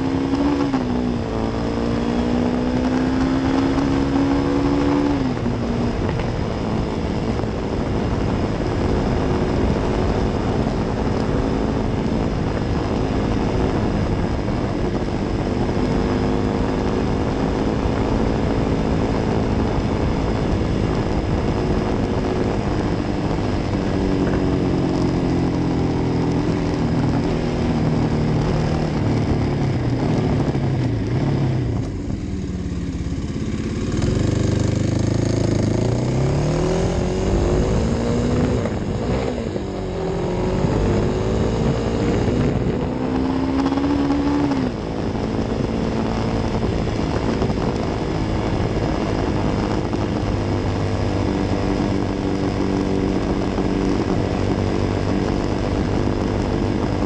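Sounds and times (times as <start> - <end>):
wind noise rushing: 0.0 - 32.3, 33.0 - 57.0
motorcycle engine accelerating: 0.0 - 57.0.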